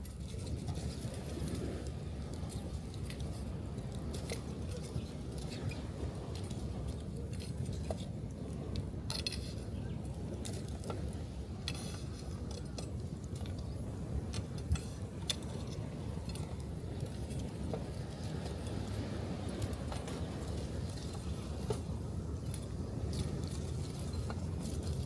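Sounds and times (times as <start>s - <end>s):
waves breaking on beach: 0.7s - 25.0s.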